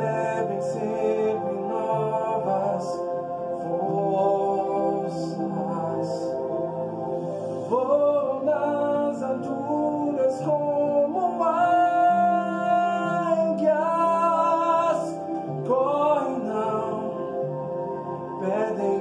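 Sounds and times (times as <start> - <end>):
man singing worship song: 0.0 - 19.0
sustained musical backing: 0.0 - 19.0.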